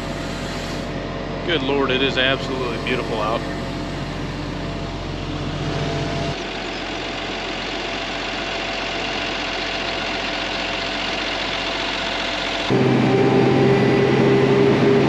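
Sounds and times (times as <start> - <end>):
crop sprayer engine running: 0.0 - 15.0.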